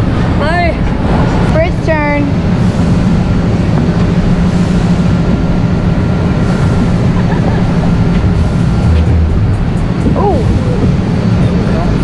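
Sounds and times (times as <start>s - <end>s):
outboard engine idling: 0.0s - 12.0s.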